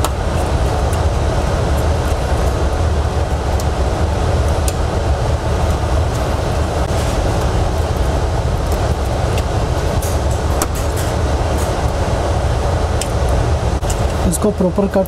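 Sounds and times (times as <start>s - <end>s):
airflow cabinet blower: 0.0s - 15.0s.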